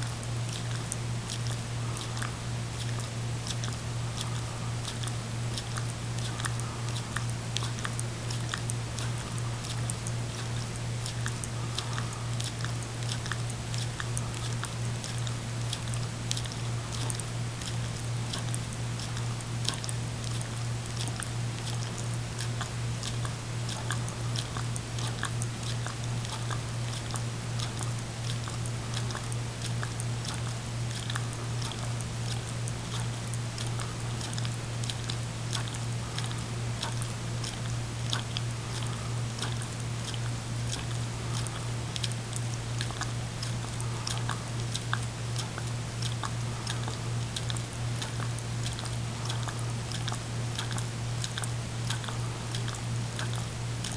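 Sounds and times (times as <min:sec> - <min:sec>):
dog licking from a cup: 0:00.0 - 0:53.9
steady low hum: 0:00.0 - 0:53.9.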